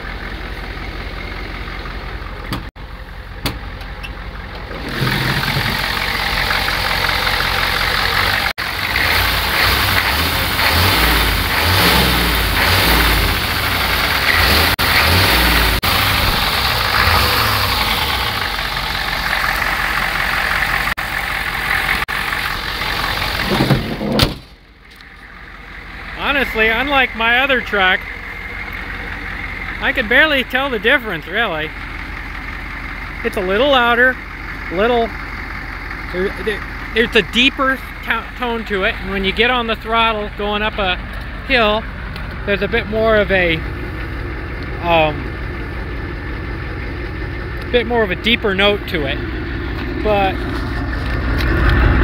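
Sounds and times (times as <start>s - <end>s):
diesel engine with throaty exhaust: 0.0s - 52.0s.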